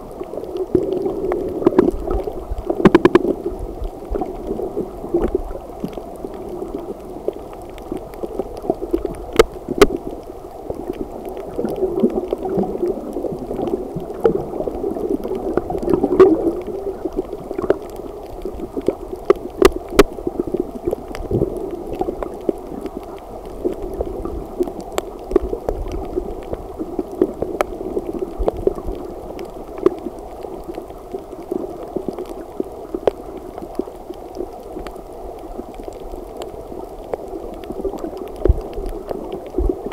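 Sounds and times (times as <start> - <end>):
muffled underwater gurgling: 0.0 - 39.9
sharp underwater clicks: 0.2 - 39.9.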